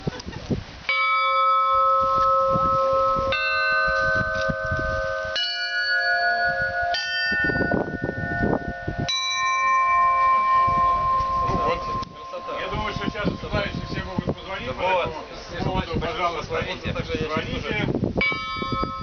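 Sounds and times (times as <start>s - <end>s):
church bells ringing: 0.9s - 16.3s, 18.2s - 19.0s.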